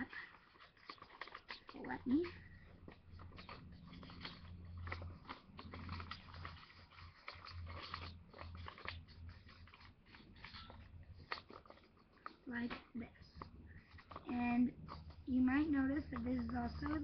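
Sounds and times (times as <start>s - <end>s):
paper crinkling: 0.0s - 17.0s.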